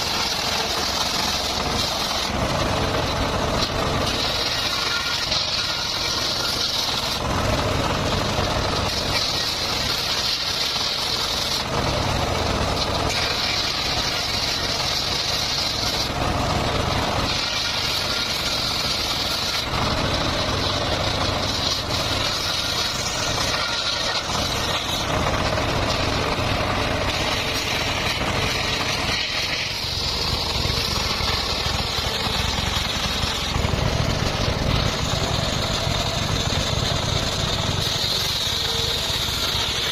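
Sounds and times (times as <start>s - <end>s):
circular saw running: 0.0s - 39.9s
saw cutting whine: 0.0s - 39.9s.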